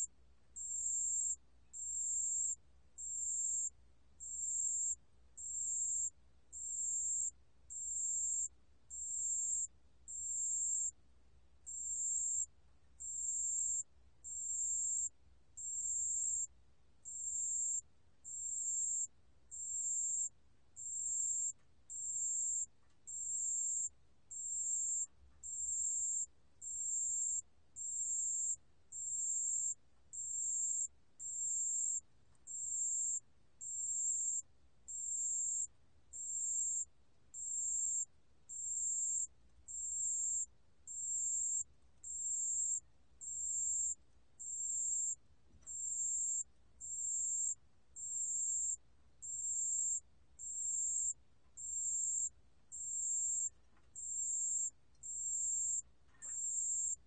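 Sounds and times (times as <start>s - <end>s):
cricket chirping: 0.0s - 11.0s, 11.6s - 57.0s.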